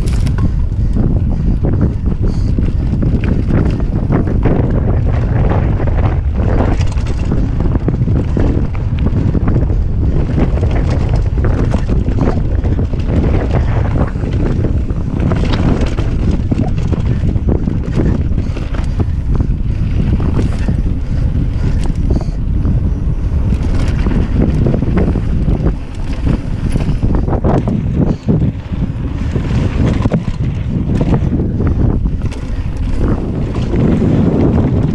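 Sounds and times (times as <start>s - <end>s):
bike rattles and clicks: 0.0s - 34.9s
wind noise on microphone: 0.0s - 34.9s.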